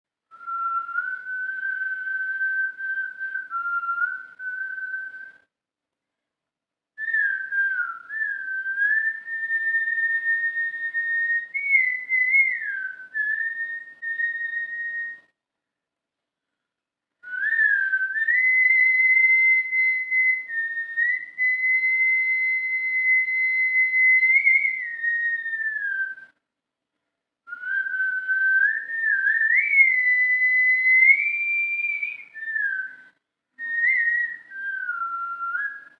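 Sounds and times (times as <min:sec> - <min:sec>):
man whistling a slow tune: 0:00.3 - 0:05.5, 0:07.0 - 0:15.4, 0:17.2 - 0:26.4, 0:27.5 - 0:35.9.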